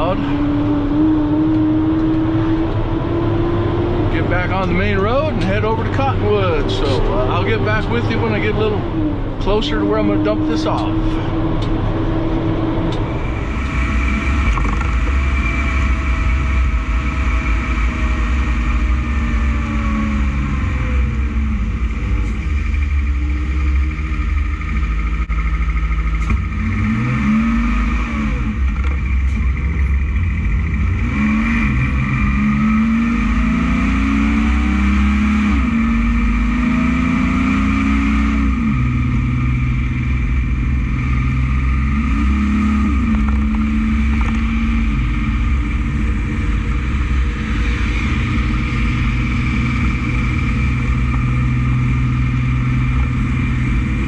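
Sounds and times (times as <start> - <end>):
truck diesel engine shifting gears: 0.0 - 54.0.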